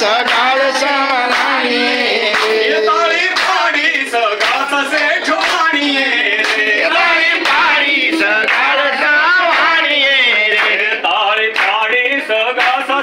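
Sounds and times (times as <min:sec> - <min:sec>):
group singing: 0:00.0 - 0:13.0
hands clapping: 0:00.0 - 0:13.0.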